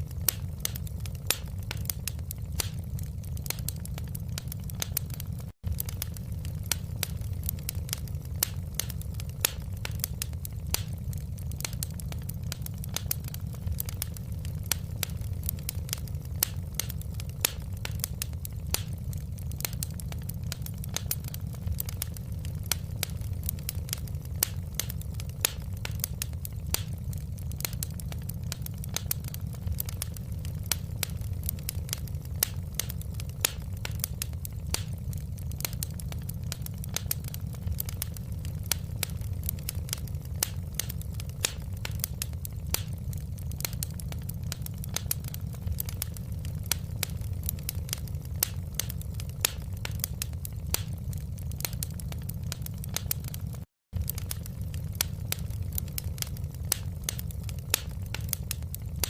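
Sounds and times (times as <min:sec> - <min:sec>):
steady low rumble: 0:00.0 - 0:59.0
wood fire crackling and popping: 0:00.0 - 0:59.0.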